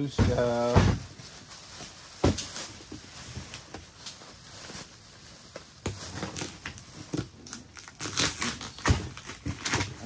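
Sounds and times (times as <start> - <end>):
plastic bags rustling: 0.0 - 10.0.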